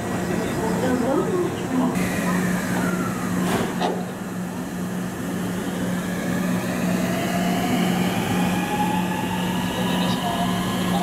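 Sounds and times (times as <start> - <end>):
electric train humming: 0.0 - 11.0
faint rising whines: 2.0 - 11.0.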